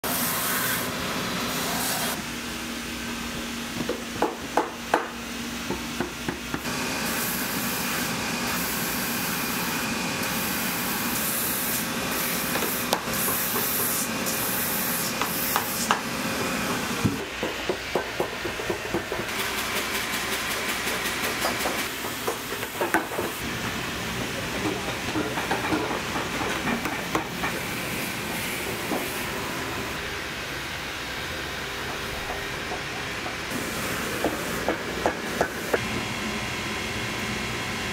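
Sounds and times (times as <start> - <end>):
machine humming and hissing: 0.0 - 37.9.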